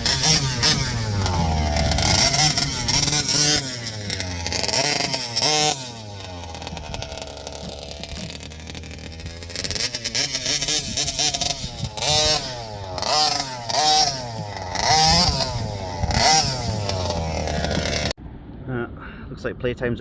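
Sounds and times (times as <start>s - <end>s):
two-stroke engine revving: 0.0s - 18.2s.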